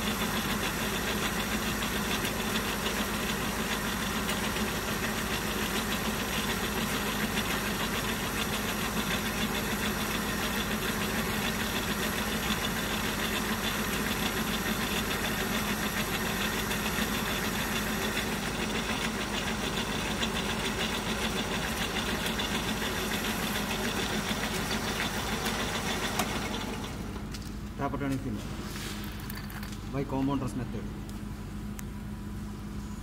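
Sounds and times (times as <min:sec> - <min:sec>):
lathe mechanical hum: 0:00.0 - 0:33.0.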